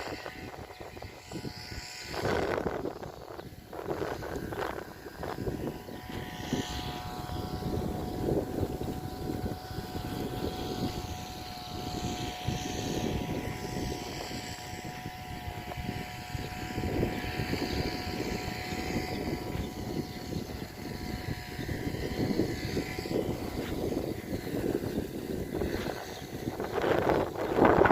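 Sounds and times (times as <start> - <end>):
engine rumbling with whine: 0.0 - 27.9.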